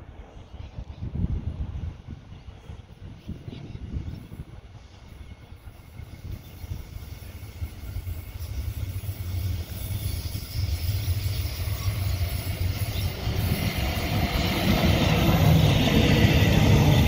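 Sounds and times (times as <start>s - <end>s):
electric train approaching: 0.0s - 17.0s.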